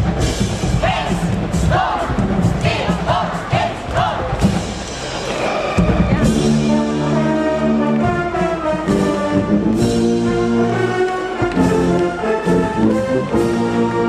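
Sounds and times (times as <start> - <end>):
brass band playing chords: 0.0 - 14.0
percussion hits: 0.0 - 14.0.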